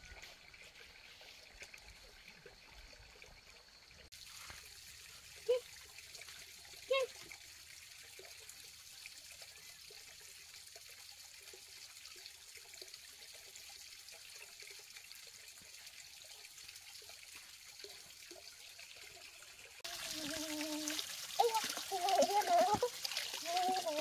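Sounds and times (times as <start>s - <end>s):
faint trickle of running water: 0.0s - 24.0s.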